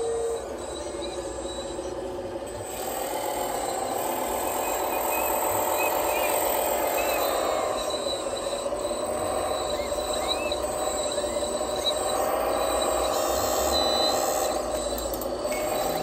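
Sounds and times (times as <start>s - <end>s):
toy loader motor whining on paving: 0.0s - 16.0s.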